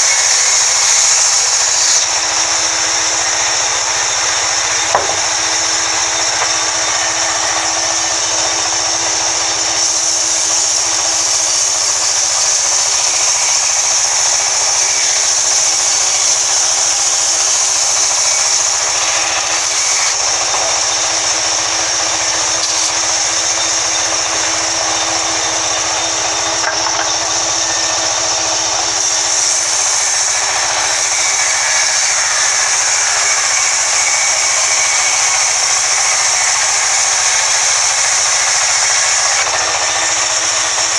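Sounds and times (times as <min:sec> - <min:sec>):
band saw cutting log: 0:00.0 - 0:40.9.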